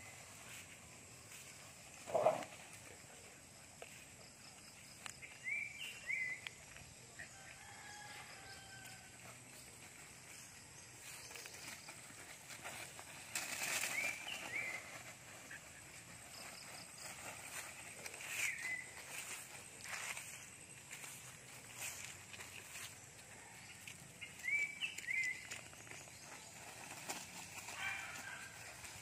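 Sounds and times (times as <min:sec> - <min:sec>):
rustling in dry leaves: 0:00.0 - 0:29.0.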